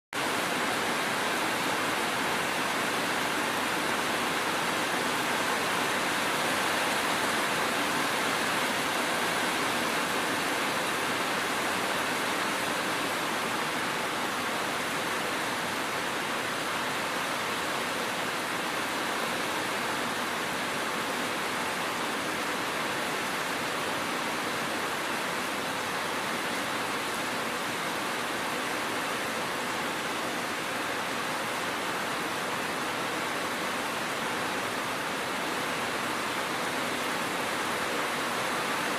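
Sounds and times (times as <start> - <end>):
steady rainfall: 0.1 - 38.9.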